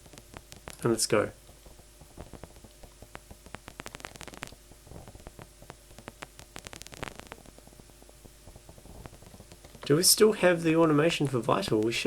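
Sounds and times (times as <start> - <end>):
synthesized paper crumpling clicks: 0.0 - 10.0
low noise hiss: 0.0 - 12.0.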